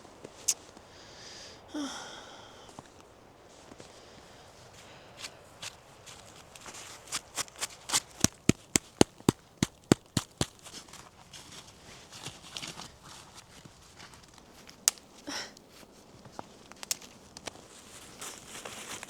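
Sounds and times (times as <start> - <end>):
soft rustling: 2.7 - 19.0.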